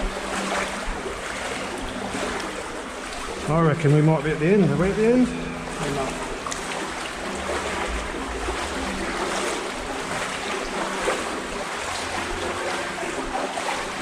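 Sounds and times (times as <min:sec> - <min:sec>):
water sloshing around legs: 0:00.0 - 0:14.0.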